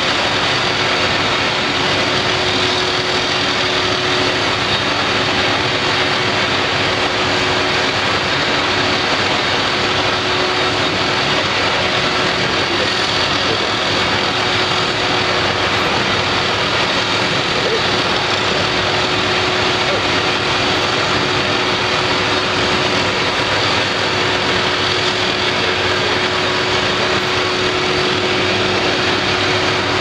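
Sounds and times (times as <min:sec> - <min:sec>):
excavator diesel engine running: 0:00.0 - 0:30.0
steady whine: 0:00.0 - 0:30.0.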